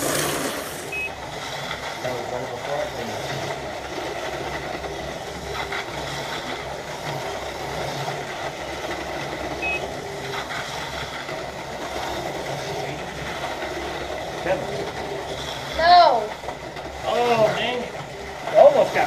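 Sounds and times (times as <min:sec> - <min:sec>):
slot cars whirring: 0:00.0 - 0:19.0.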